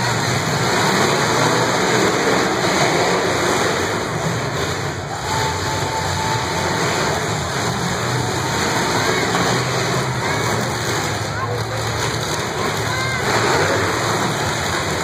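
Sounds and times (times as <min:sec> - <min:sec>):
demolition derby car engines: 0:00.0 - 0:15.0
grandstand crowd noise: 0:00.0 - 0:15.0.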